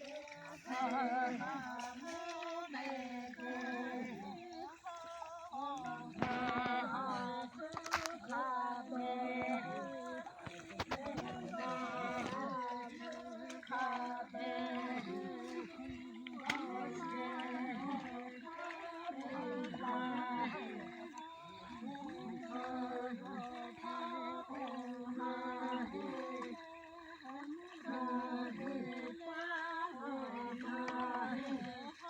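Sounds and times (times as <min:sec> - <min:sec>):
voices singing a work chant: 0:00.0 - 0:32.0.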